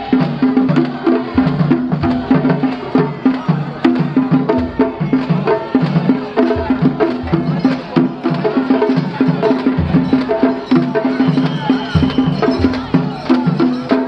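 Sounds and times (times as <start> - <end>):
festival drum strikes: 0.0 - 14.0.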